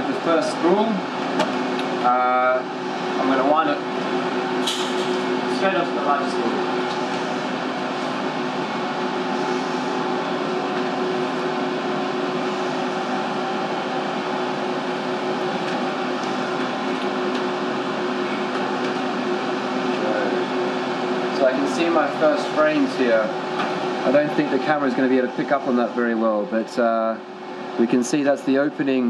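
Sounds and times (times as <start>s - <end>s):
machine hum and whir: 0.0s - 29.0s.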